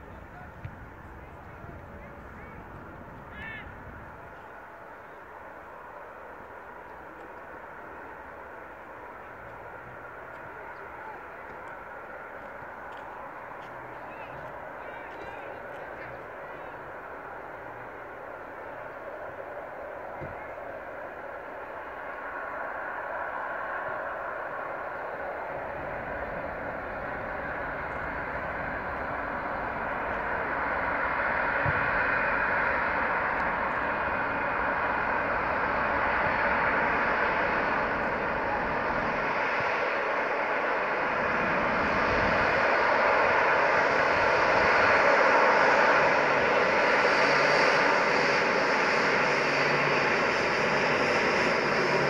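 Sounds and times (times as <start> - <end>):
jet engine whine: 0.0 - 52.0
jet engines taxiing: 0.0 - 52.0.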